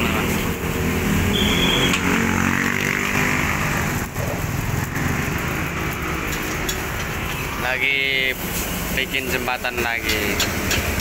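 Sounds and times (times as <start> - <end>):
motorbikes passing: 0.0 - 11.0
traffic noise: 0.0 - 11.0.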